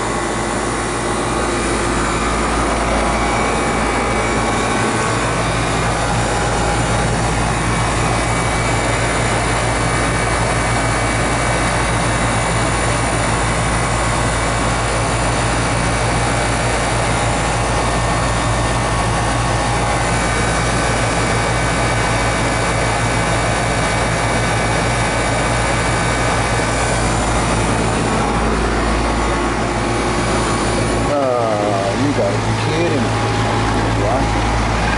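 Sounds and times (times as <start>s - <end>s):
air conditioner unit humming: 0.0s - 34.9s.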